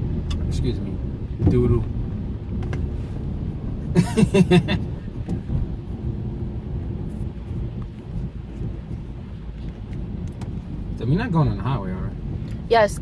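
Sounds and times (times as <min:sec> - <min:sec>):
car driving heard inside cabin: 0:00.0 - 0:13.0.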